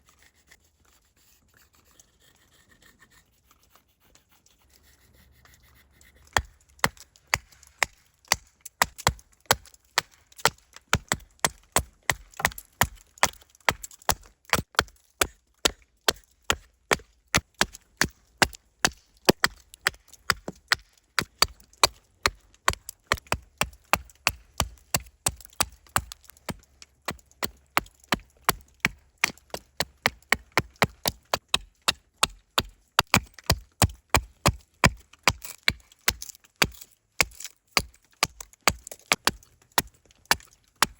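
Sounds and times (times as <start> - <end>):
blade chopping wood: 6.3 - 40.9.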